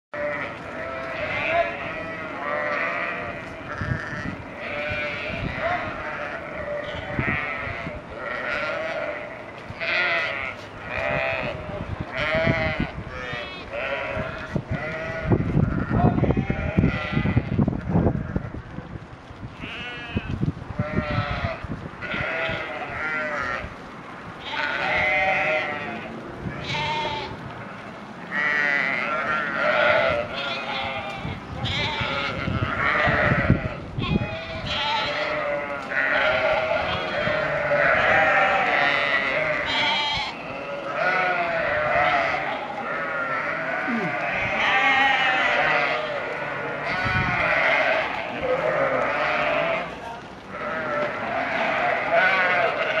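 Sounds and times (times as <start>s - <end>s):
sheep bleating: 0.2s - 17.6s, 19.6s - 23.7s, 24.4s - 53.0s.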